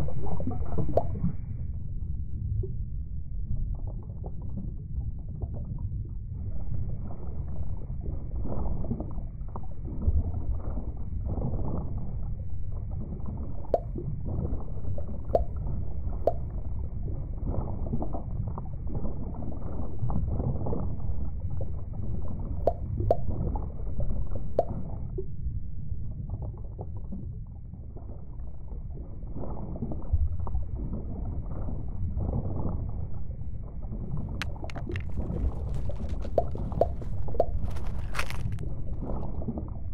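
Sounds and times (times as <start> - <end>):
underwater gurgling and bubbling: 0.0 - 2.1, 2.7 - 37.9, 38.6 - 39.9.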